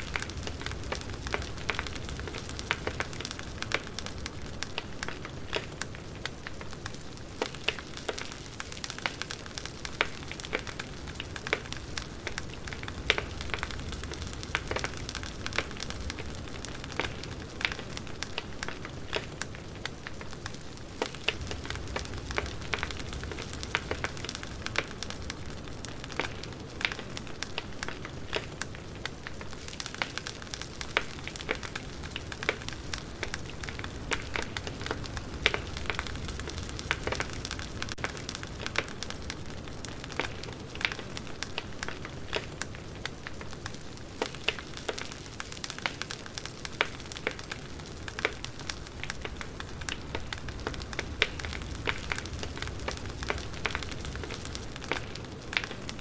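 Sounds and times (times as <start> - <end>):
campfire crackling and popping: 0.0 - 56.0
low rush of flames: 0.0 - 56.0.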